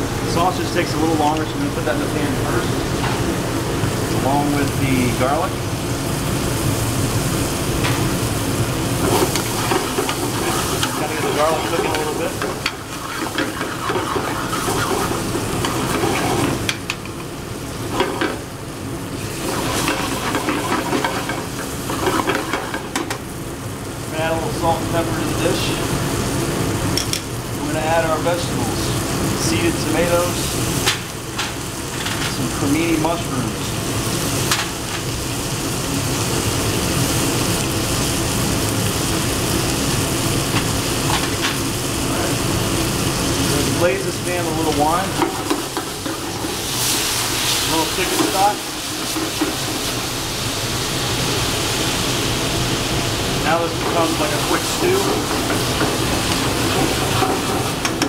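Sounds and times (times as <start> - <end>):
meat sizzling in a pan: 2.8 - 58.0.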